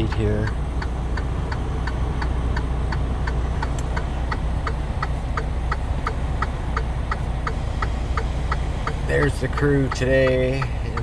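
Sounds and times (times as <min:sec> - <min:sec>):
mechanical ticking: 0:00.0 - 0:11.0.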